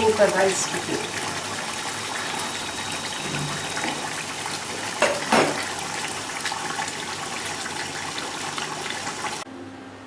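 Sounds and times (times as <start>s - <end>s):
pot of water boiling: 0.0s - 9.4s.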